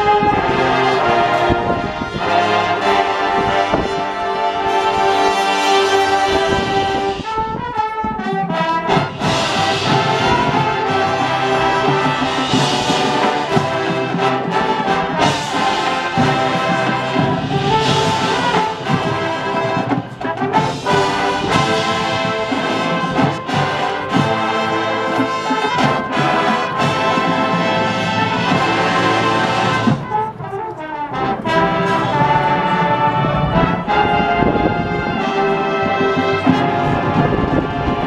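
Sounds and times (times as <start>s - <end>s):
marching band brass chords: 0.0s - 38.0s.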